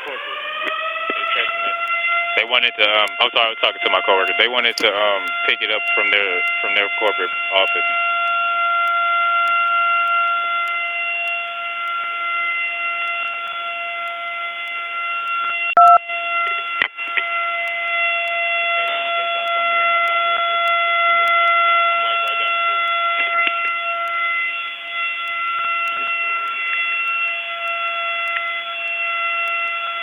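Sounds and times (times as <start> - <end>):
buzzy alarm tone over phone: 0.0 - 30.0
loud crackle: 0.0 - 30.0.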